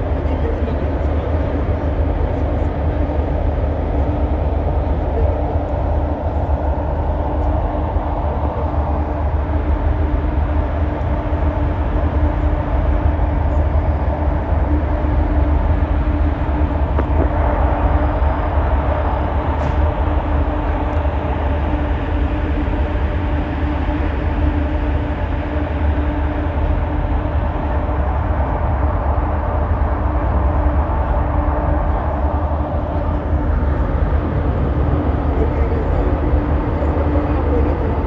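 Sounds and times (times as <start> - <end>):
constant hum: 0.0 - 38.0
ferry engines deep rumble: 0.0 - 38.0.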